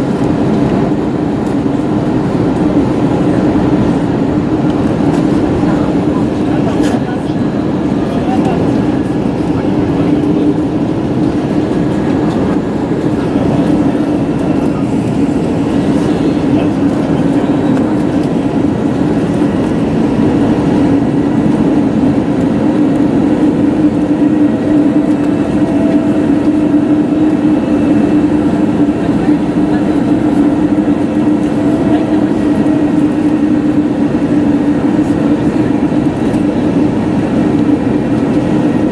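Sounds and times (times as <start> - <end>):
airplane cabin engine rush: 0.0 - 38.9.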